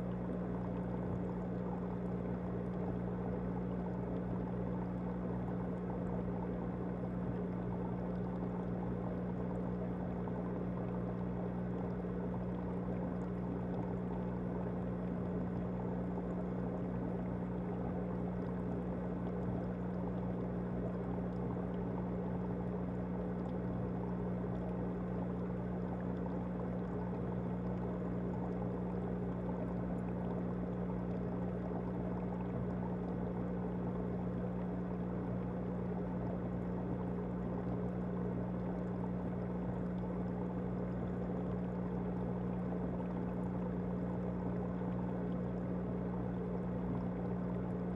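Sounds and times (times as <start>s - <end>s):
aquarium pump humming: 0.0s - 47.9s
moving water: 0.0s - 47.9s.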